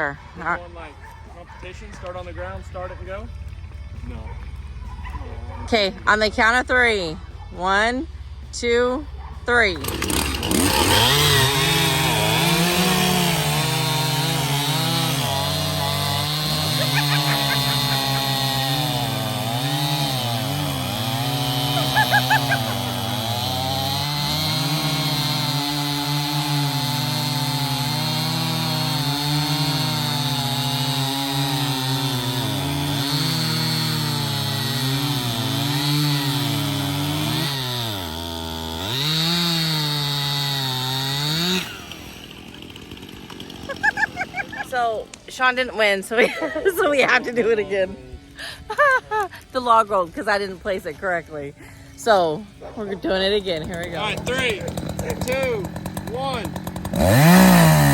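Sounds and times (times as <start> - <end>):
chainsaws cutting logs: 9.4 - 47.8, 48.4 - 57.9.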